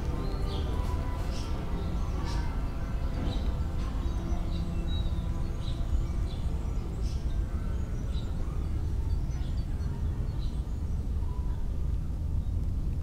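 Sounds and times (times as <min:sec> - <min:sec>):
bird chirping: 0:00.0 - 0:11.7
low city rumble: 0:00.0 - 0:13.0.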